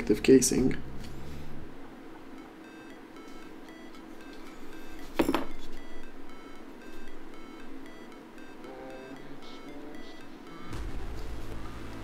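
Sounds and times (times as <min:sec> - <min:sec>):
electronic synth music: 0:02.4 - 0:12.0.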